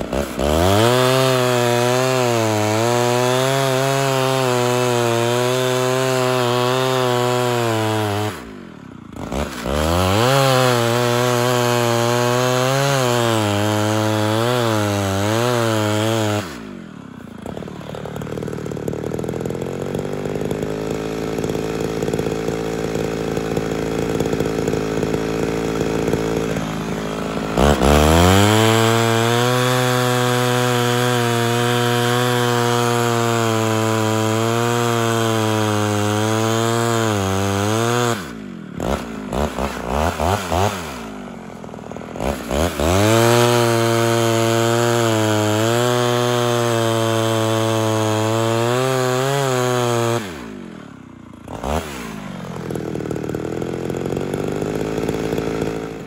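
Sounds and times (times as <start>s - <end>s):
chainsaw cutting log: 0.0s - 56.0s
chainsaw idling: 0.0s - 56.0s.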